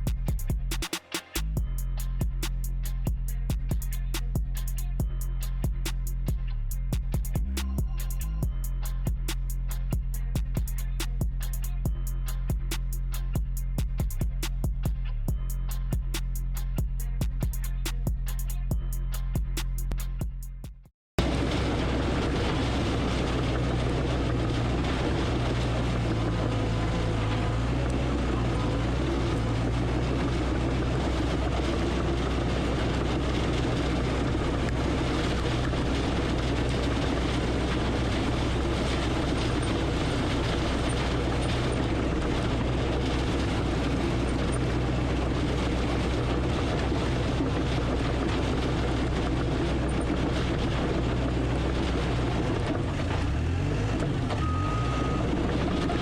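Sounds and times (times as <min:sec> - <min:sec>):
diesel engine droning under load: 0:00.0 - 0:00.8, 0:01.4 - 0:20.1, 0:21.2 - 0:56.0.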